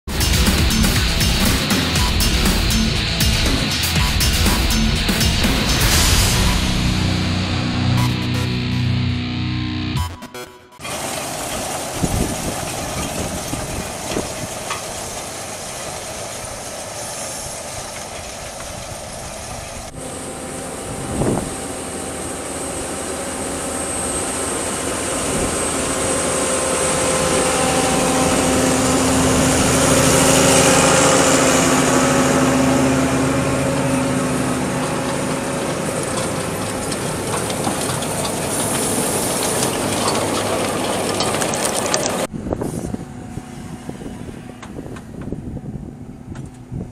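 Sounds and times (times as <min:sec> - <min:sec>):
tractor diesel engine running: 0:00.0 - 0:10.0, 0:10.8 - 0:46.9.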